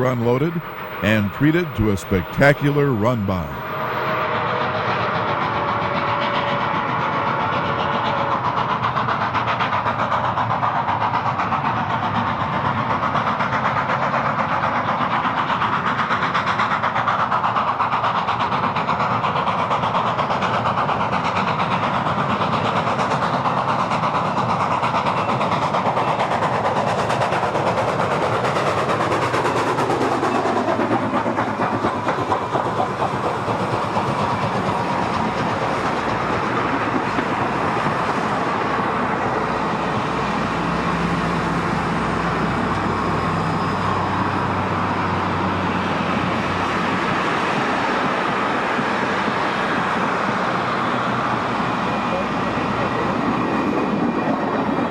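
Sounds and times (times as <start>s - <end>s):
steam train rumbling past: 0.0s - 54.9s.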